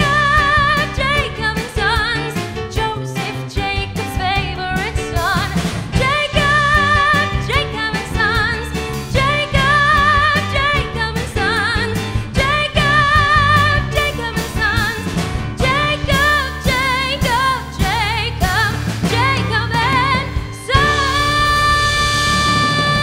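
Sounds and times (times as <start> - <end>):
band with drums and bass: 0.0 - 23.0
woman singing with vibrato: 0.0 - 23.0.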